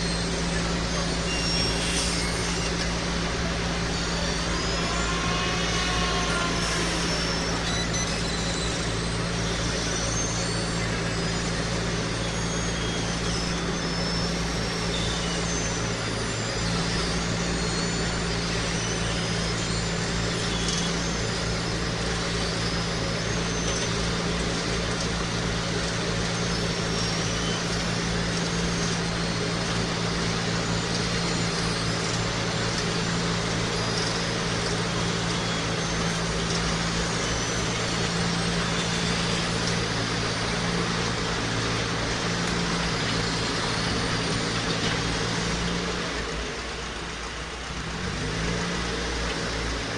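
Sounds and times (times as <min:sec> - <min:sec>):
machinery engine running: 0:00.0 - 0:49.9.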